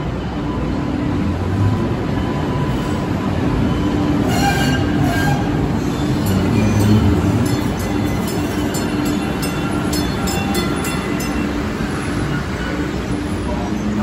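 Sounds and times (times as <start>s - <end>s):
light-rail train rumbling: 0.0s - 14.0s.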